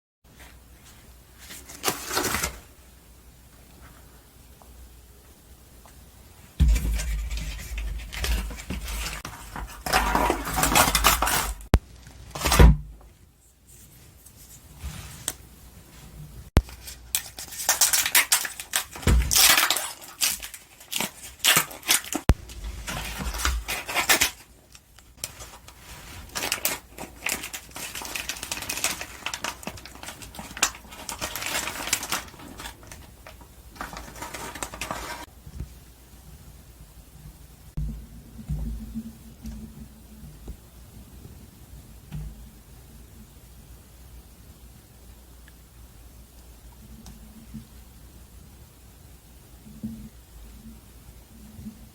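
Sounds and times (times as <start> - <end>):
crackly noise and sharp clicks: 3.4 - 13.3, 16.4 - 51.9.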